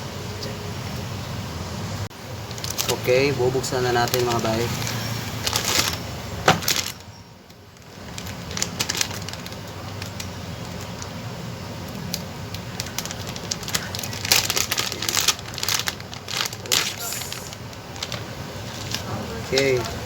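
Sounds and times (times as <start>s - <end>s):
plastic wrap crinkling: 2.4s - 20.0s.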